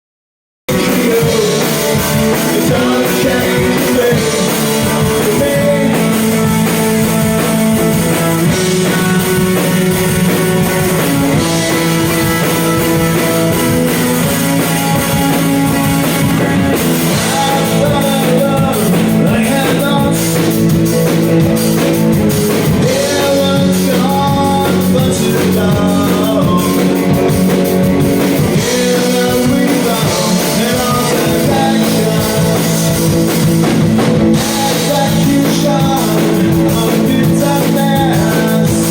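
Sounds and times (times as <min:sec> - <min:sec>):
rock band playing: 0:00.7 - 0:38.9.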